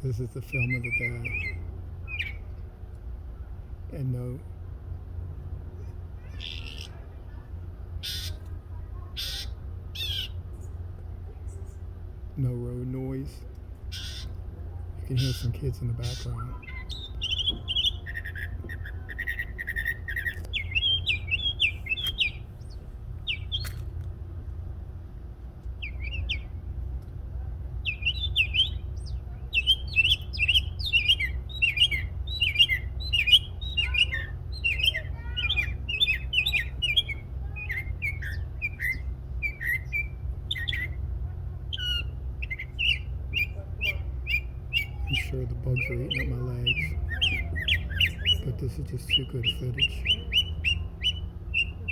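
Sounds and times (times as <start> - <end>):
songbirds singing: 0.0 - 51.9
steady low rumble: 0.0 - 51.9.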